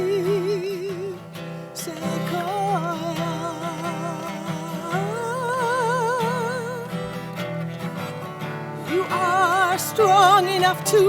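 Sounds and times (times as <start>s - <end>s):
acoustic guitar: 0.0s - 11.0s.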